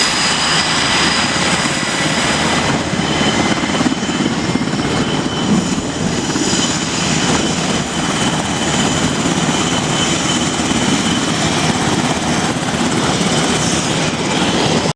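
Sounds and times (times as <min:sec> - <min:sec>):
helicopter rotor and turbines roaring: 0:00.0 - 0:14.9.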